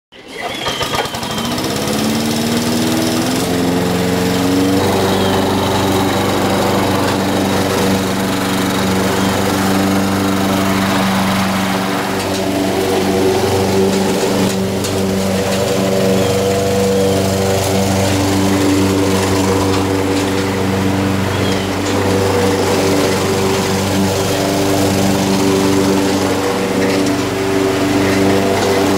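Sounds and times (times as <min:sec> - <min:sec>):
lawn mower engine running: 0:00.1 - 0:28.9.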